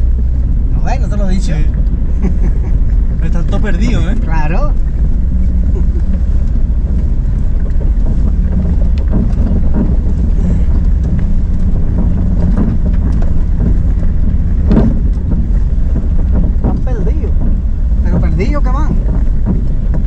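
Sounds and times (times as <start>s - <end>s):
engine and tyres rumbling: 0.0s - 20.0s
knocks and rattles: 1.6s - 20.0s.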